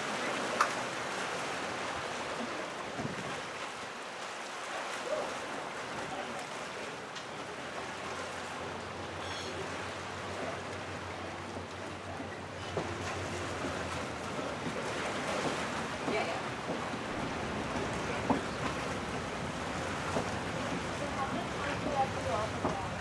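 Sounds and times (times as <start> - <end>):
water: 0.0 - 23.0
wind: 0.0 - 23.0.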